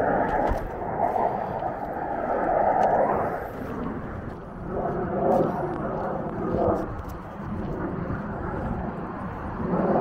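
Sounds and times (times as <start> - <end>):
distant jet engine rumble: 0.0 - 10.0.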